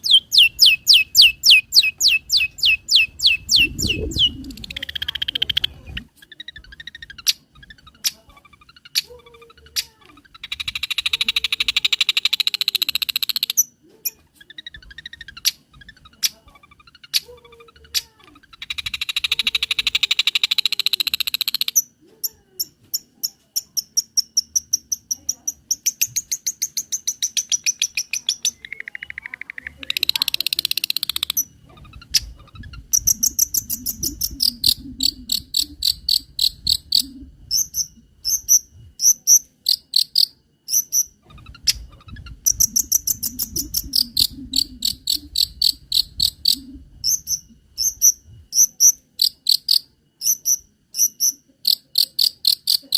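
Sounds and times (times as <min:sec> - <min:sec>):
shrike singing mimicry song: 0:00.0 - 0:52.9.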